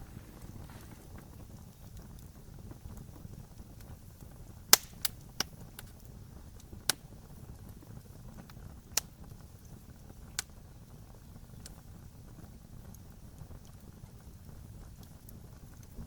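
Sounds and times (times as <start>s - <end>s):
bonfire burning: 0.0s - 16.0s
crackling pops of fire: 0.0s - 16.0s.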